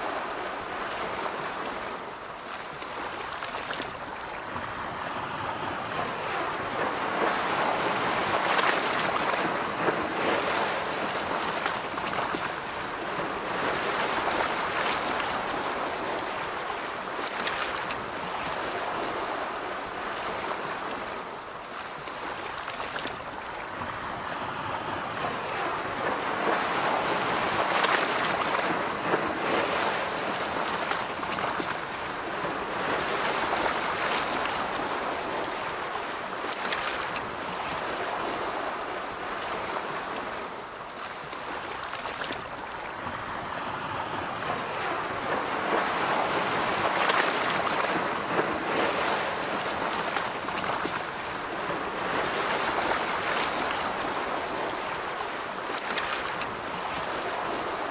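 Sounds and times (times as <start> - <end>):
ocean surf on a beach: 0.0 - 57.9
wind: 0.0 - 57.9.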